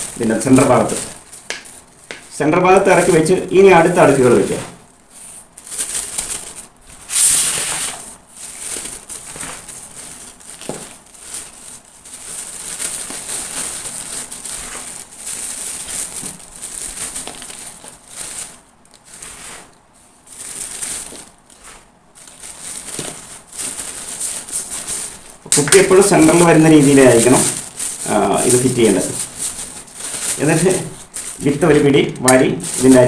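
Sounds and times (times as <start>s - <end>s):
plastic bag crinkling: 0.0s - 33.0s.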